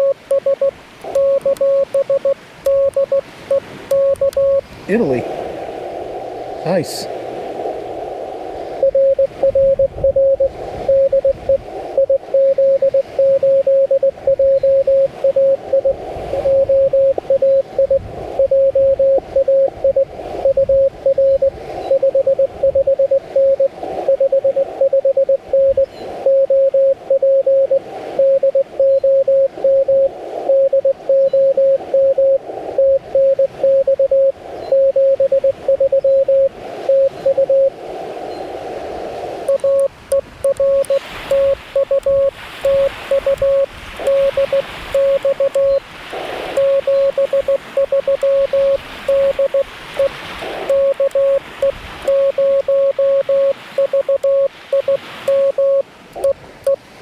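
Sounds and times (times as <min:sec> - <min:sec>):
morse code beeps: 0:00.0 - 0:05.1, 0:08.8 - 0:37.7, 0:39.5 - 0:45.9, 0:46.5 - 0:56.8
radio receiver hiss: 0:00.0 - 0:20.6, 0:29.2 - 0:56.8.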